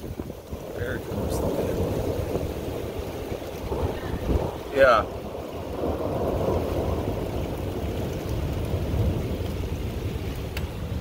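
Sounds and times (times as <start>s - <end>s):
wind gusting on microphone: 0.0s - 11.0s.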